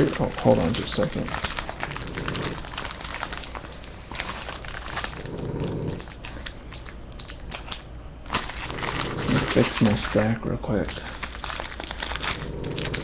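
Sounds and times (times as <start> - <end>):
foil wrappers crinkling: 0.0 - 13.0.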